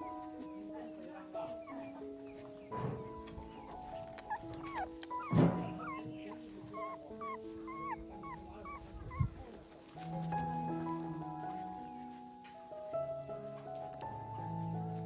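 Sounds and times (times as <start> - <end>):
puppies whimpering: 0.0 - 12.4
soft background music: 0.0 - 15.0.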